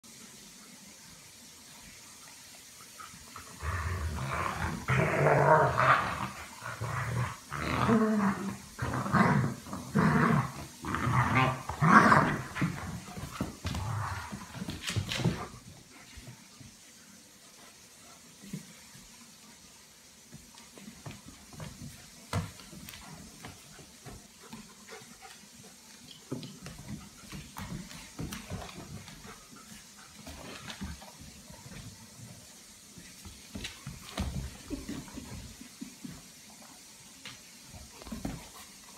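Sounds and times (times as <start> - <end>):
dogs scuffling and footfalls: 2.9 - 38.9.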